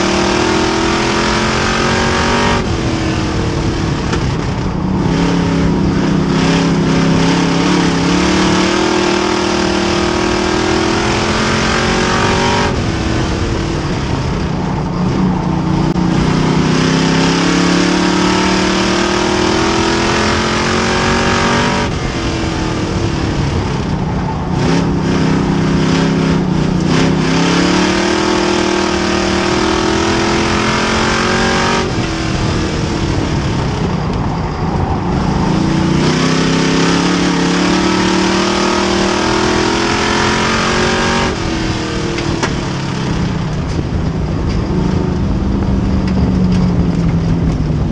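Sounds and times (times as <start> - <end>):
race car engine running hard: 0.0 - 47.9.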